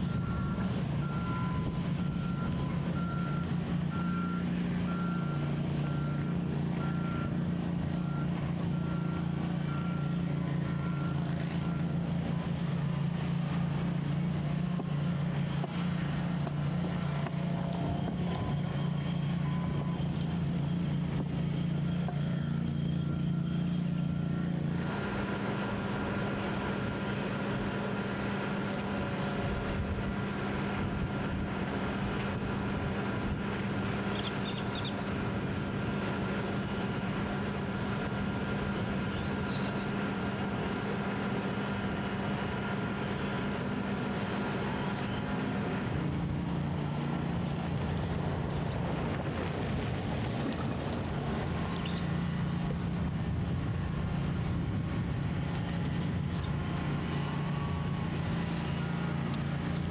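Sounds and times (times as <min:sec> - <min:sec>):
machinery engine drone: 0:00.0 - 0:59.9.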